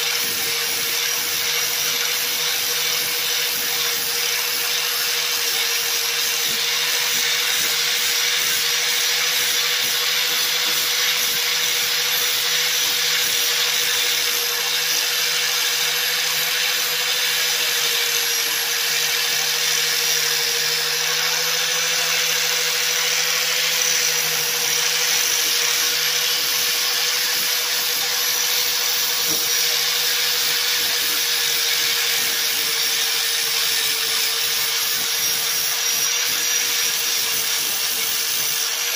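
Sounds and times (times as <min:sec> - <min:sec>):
abrasive disc sanding filler: 0:00.0 - 0:38.9
angle grinder motor whine: 0:00.0 - 0:38.9.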